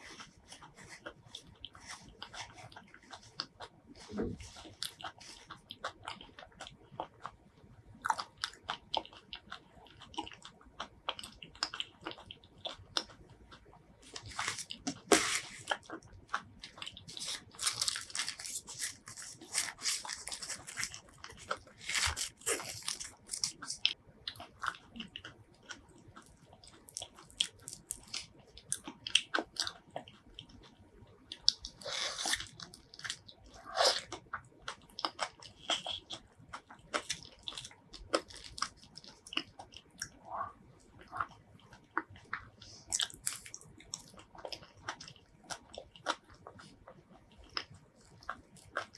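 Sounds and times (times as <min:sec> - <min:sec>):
wet chewing and biting: 0:00.0 - 0:48.9.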